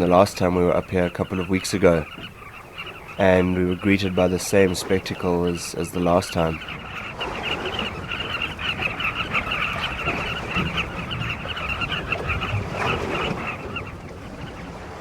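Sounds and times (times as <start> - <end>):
bird colony chattering: 0.0 - 15.0.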